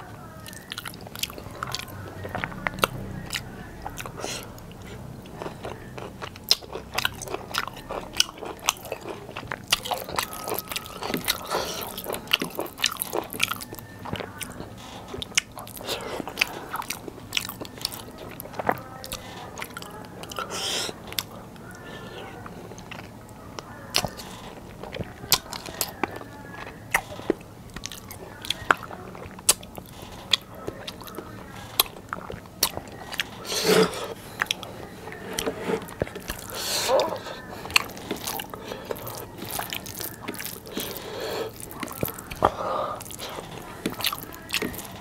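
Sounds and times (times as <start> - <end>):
fingers squishing rice: 0.0 - 45.0
wet chewing and lip smacking: 0.0 - 45.0.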